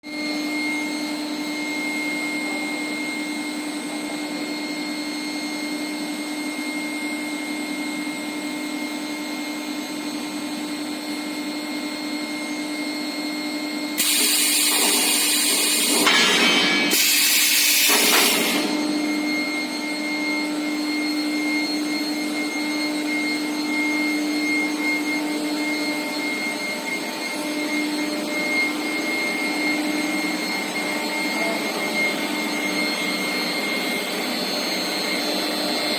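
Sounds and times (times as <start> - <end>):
furnace hum and high whine: 0.1 - 35.9.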